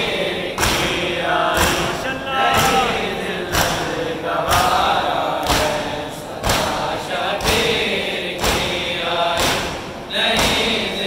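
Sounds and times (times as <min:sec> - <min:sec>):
mourners chanting: 0:00.0 - 0:11.0.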